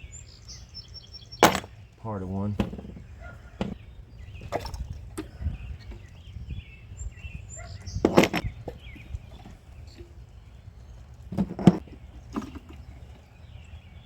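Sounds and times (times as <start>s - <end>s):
birds chirping faintly: 0.0s - 14.0s
low background rumble: 0.0s - 14.0s.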